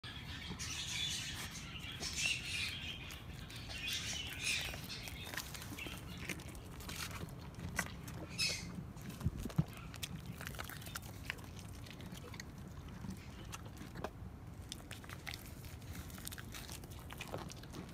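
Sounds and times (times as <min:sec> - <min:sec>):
goat chewing and smacking: 0:00.4 - 0:17.9.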